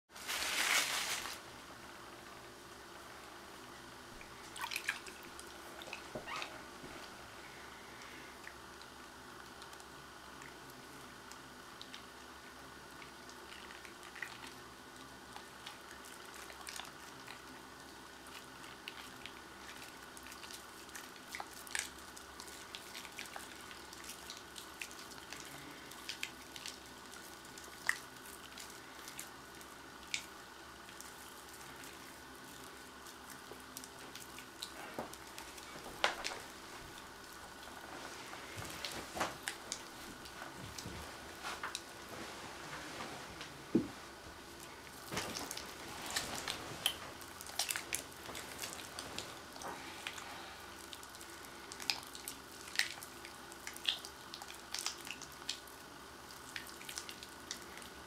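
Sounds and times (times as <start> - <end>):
steady background hum: 0.1 - 58.0.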